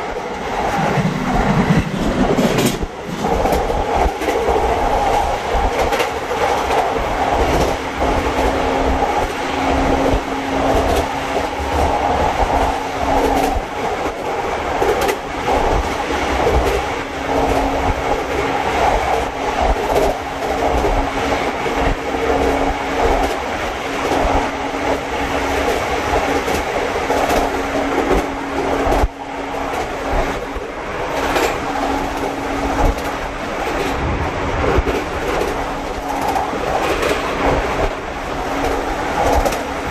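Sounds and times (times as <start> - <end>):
train wheels rumbling on rail: 0.0 - 39.9
wheels clicking over track: 0.5 - 34.1, 34.7 - 39.9.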